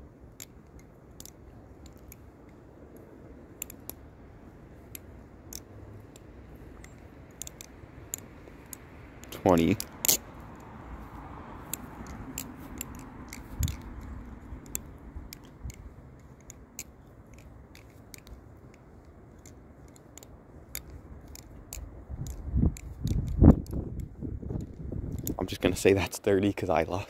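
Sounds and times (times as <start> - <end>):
butterfly knife clicking: 0.3 - 4.1, 4.8 - 25.4.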